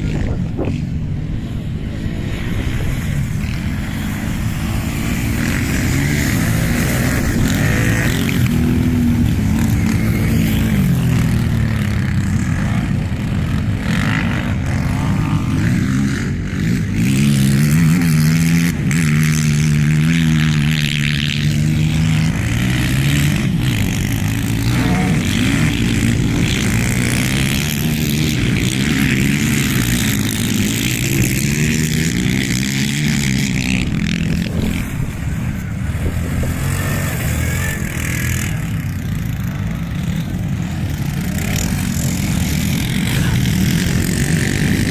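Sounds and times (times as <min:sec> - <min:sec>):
quad bike engines revving: 0:00.0 - 0:44.9.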